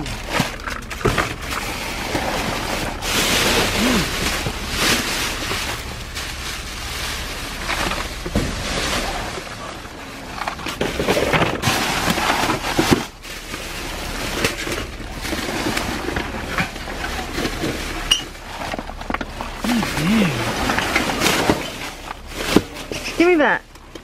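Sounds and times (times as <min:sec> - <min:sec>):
items knocking and clattering: 0:00.0 - 0:06.4, 0:07.5 - 0:24.0
plastic trash bags rustling: 0:00.0 - 0:24.0.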